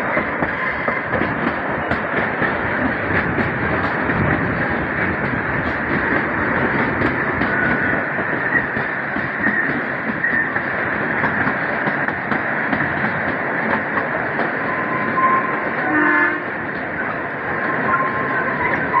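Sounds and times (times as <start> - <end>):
train wheels rattling on track: 0.0 - 19.0.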